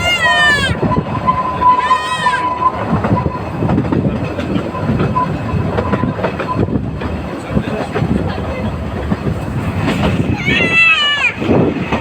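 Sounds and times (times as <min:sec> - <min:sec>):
train rumbling along track: 0:00.0 - 0:12.0
wheels clattering over rails: 0:00.0 - 0:12.0.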